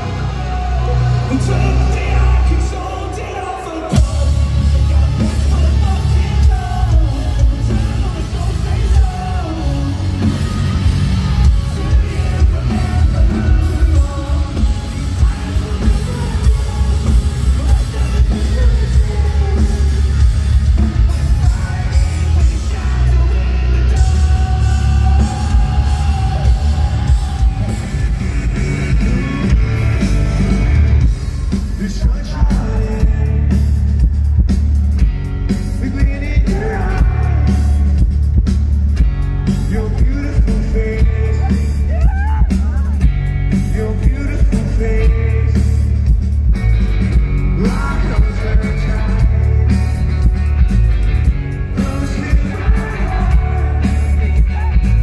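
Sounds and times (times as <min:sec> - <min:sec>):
person singing: 0:00.0 - 0:30.6, 0:31.6 - 0:33.9, 0:35.6 - 0:38.0, 0:39.5 - 0:46.1, 0:47.4 - 0:50.3, 0:51.6 - 0:55.0
drums: 0:00.0 - 0:55.0
live rock band playing: 0:00.0 - 0:55.0
heavy booming bass: 0:03.9 - 0:55.0.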